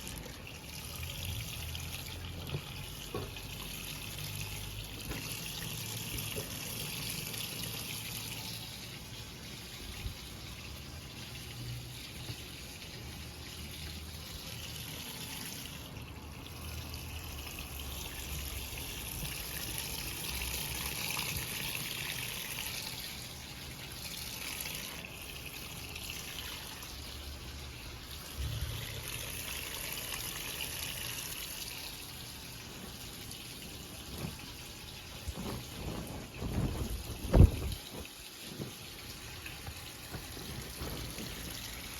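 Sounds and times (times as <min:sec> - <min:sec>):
water pouring into washing machine: 0:00.0 - 0:41.9.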